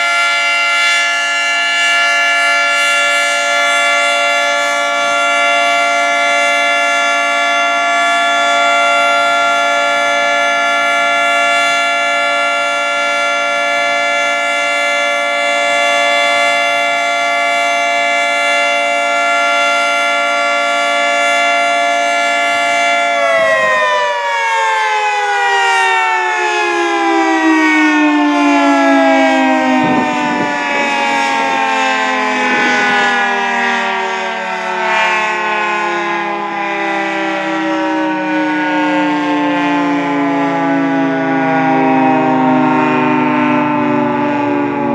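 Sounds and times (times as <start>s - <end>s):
dual-tone warning siren: 0.0s - 44.9s.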